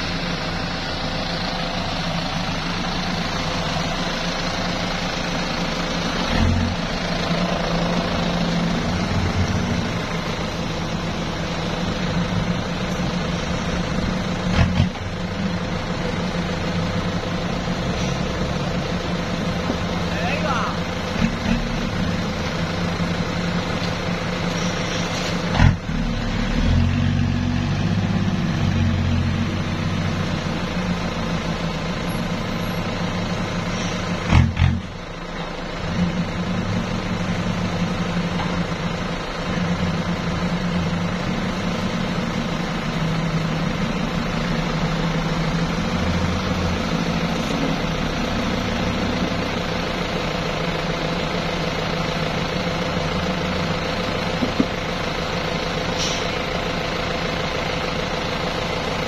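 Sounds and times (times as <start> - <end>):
dump truck diesel engine: 0.0 - 59.0.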